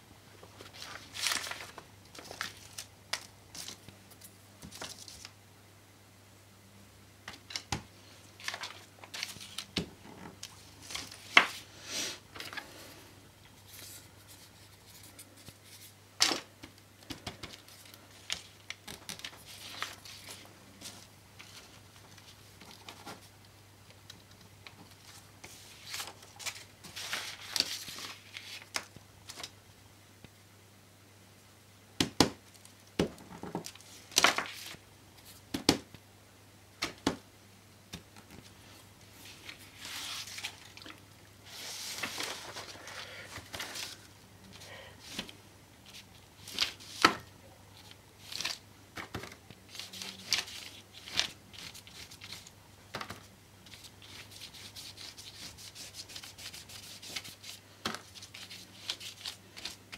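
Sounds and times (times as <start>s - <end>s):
paper rustling and crinkling: 0.4s - 5.4s, 7.3s - 11.7s, 13.6s - 23.4s, 24.0s - 29.5s, 32.4s - 35.8s, 37.9s - 59.9s.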